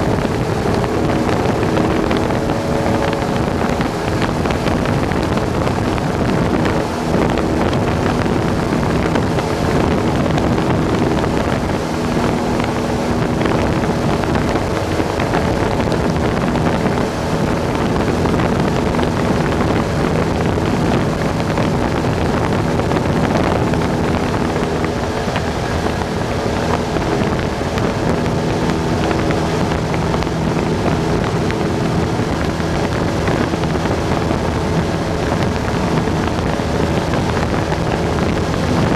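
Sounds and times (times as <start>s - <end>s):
airplane engine droning: 0.0s - 38.9s
wind rushing: 0.0s - 38.9s.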